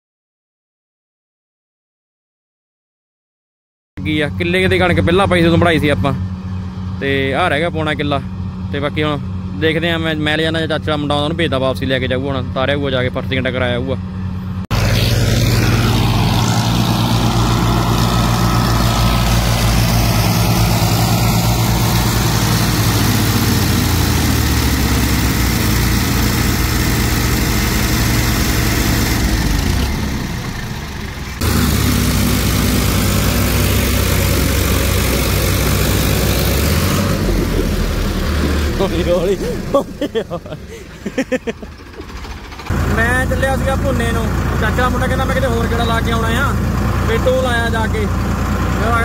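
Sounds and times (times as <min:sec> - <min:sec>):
tractor diesel engines under load: 0:04.0 - 0:49.0.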